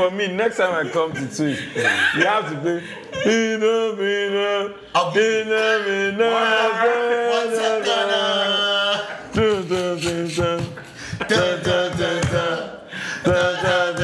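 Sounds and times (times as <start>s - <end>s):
men singing choir-like: 2.5s - 14.0s.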